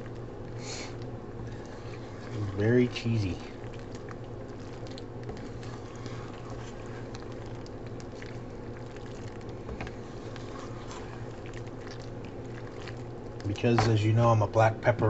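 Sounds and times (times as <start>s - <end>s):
pasta squelching in sauce: 0.0s - 14.1s
steady low hum: 0.0s - 15.0s.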